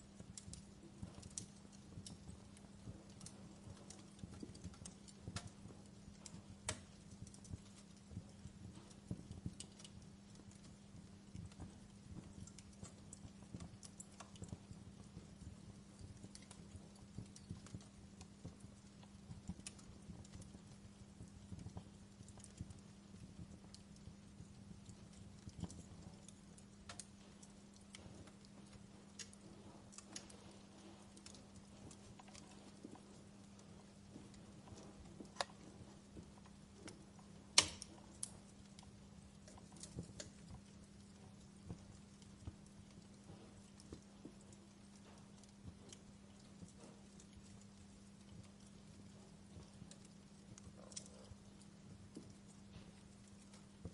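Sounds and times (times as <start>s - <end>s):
faint steady hum: 0.0s - 53.9s
wood fire crackling: 0.0s - 53.9s.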